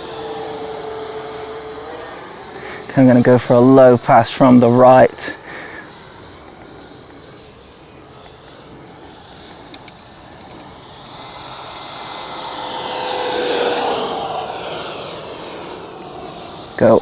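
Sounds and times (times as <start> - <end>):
model jet ducted fan whining: 0.0 - 17.0.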